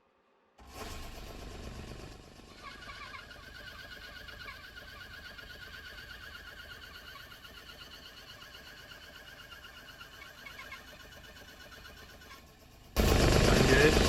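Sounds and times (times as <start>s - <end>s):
bandsaw motor hum: 0.6s - 14.0s
saw blade whine: 0.6s - 14.0s.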